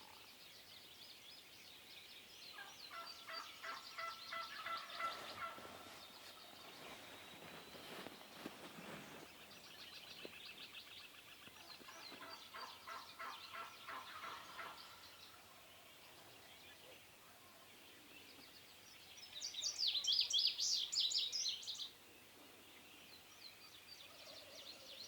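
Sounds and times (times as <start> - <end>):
songbirds chirping faintly: 0.0 - 25.0.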